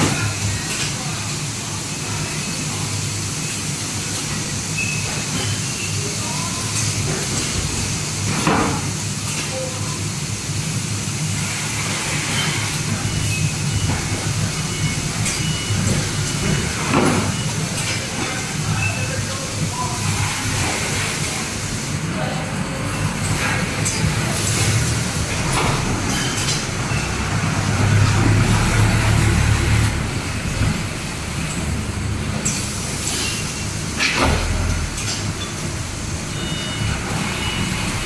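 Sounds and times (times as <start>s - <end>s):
packing machine humming: 2.0s - 38.0s.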